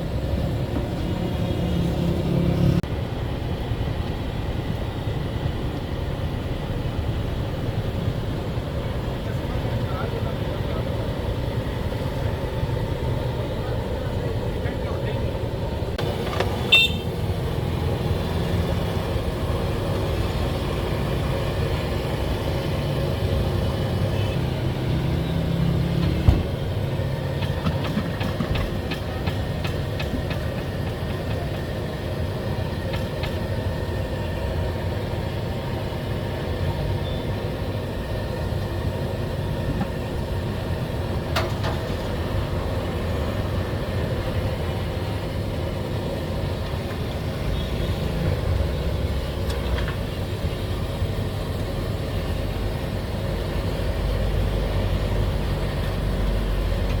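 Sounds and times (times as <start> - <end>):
idling engine rumble: 0.0 - 57.0.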